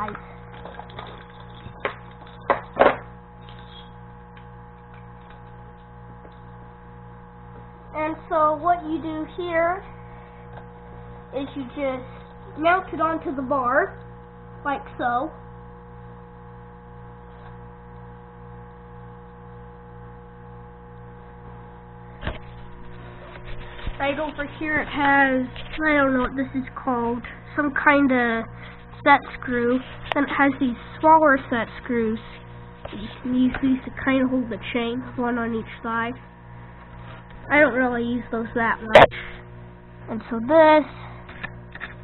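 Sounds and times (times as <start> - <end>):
steady electrical hum: 0.0 - 42.0.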